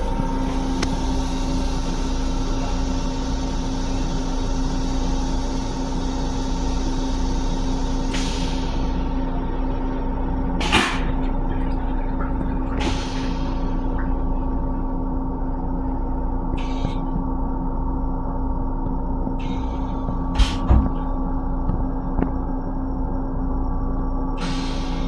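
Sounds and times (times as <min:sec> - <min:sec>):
electrical and ventilation hum: 0:00.0 - 0:25.0.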